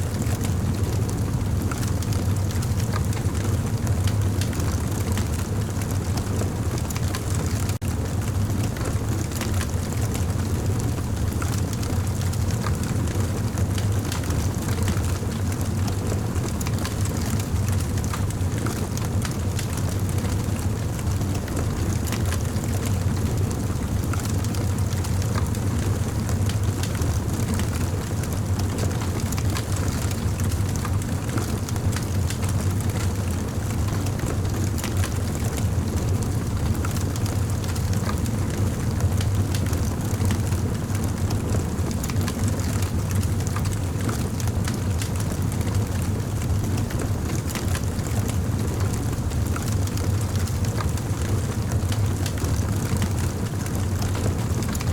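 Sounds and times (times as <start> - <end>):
crackling burning wood: 0.1 - 54.9.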